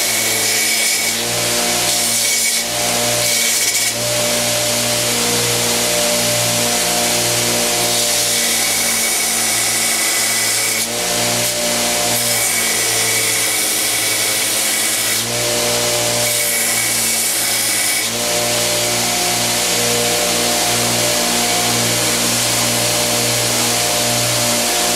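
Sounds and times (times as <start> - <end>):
abrasive belt grinding: 0.0 - 24.9
belt grinder motor humming: 0.0 - 24.9.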